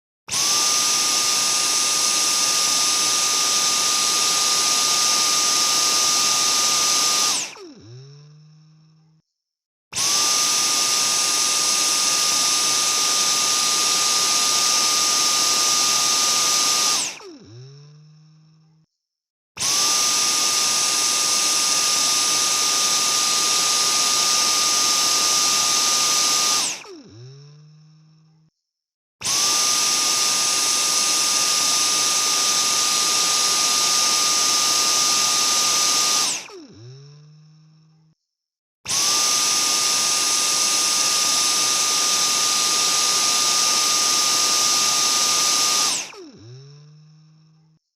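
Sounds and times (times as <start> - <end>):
vacuum cleaner motor whining: 0.3 - 9.2, 9.9 - 18.7, 19.6 - 28.4, 29.2 - 38.0, 38.9 - 47.7.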